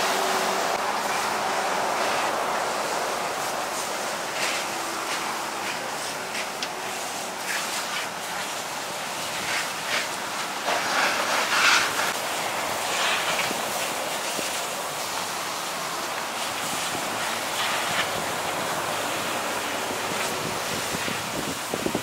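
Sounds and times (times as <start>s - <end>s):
fire hissing and crackling: 0.0s - 22.0s.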